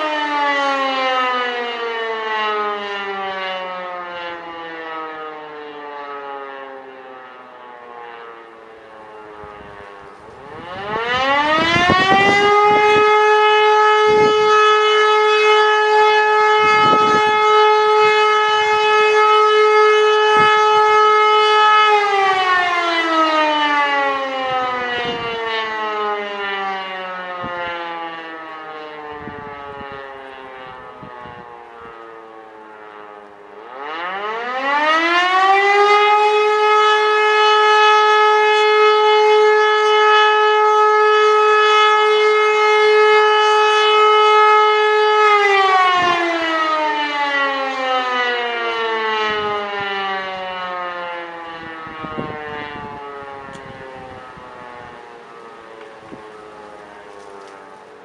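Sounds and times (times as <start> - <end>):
siren wailing: 0.0 - 58.0.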